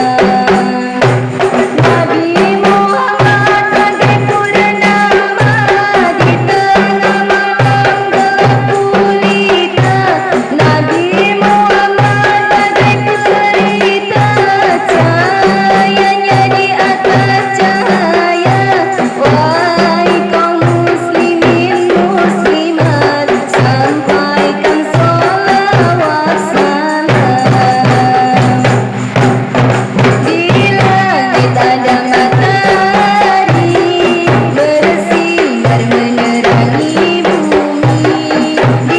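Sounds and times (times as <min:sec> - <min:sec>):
drum pattern: 0:00.0 - 0:38.9
tambourine jingles: 0:00.0 - 0:38.9.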